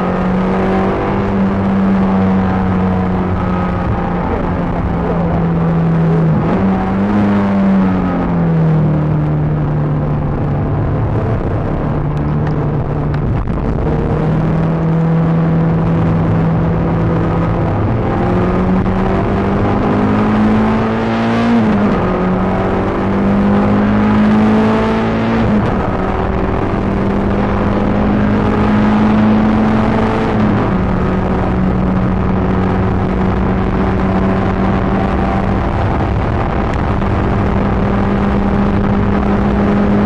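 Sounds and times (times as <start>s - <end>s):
car engine under load: 0.0s - 40.0s.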